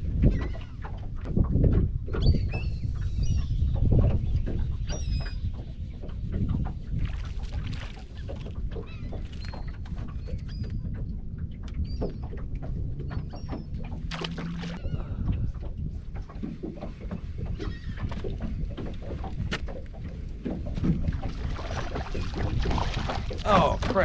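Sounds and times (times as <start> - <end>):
seabirds calling: 0.0 - 1.3, 2.2 - 24.0
water noise: 0.0 - 24.0
wind: 0.0 - 24.0.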